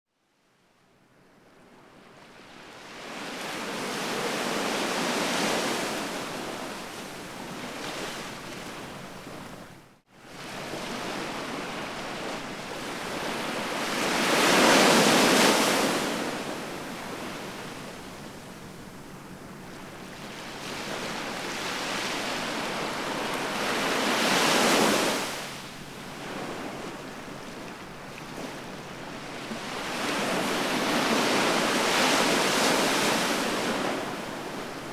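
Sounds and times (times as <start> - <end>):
sea waves breaking on shore: 2.4 - 34.9.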